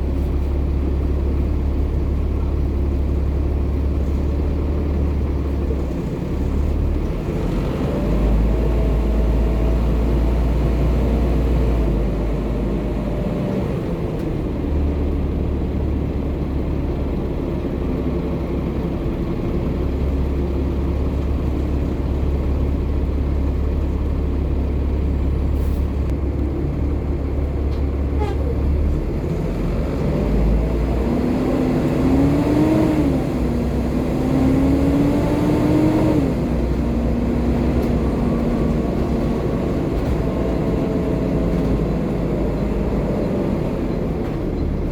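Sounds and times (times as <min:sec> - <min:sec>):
bus diesel engine rumble: 0:00.0 - 0:44.9.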